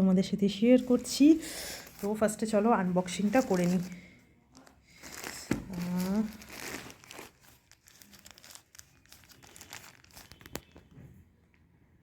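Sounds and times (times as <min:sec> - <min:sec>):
plastic packaging crinkling: 0:00.8 - 0:10.9.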